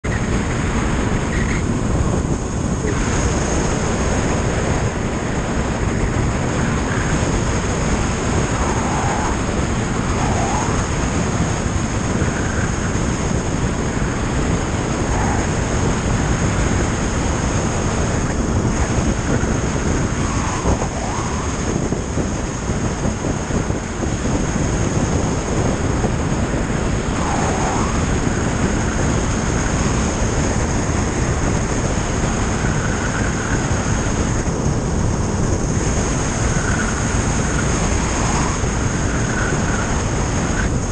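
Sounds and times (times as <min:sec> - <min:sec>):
motorcycle engine drone: 0:00.0 - 0:40.9
wind rushing: 0:00.0 - 0:40.9.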